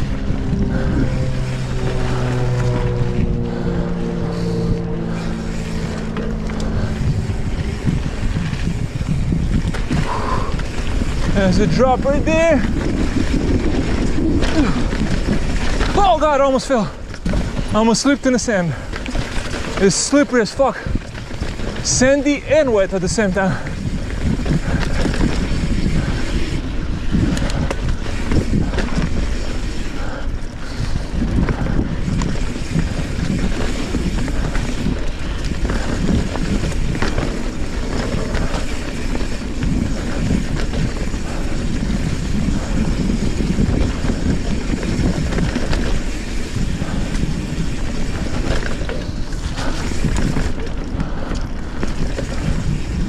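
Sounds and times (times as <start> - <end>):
bike tyre noise: 0.0 - 53.0
wind rushing on microphone: 0.0 - 53.0
knocks and rattles over bumps: 5.1 - 53.0.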